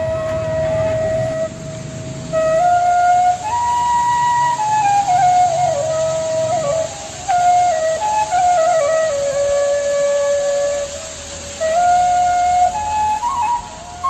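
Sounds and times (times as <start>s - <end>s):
solo flute melody: 0.0s - 14.0s.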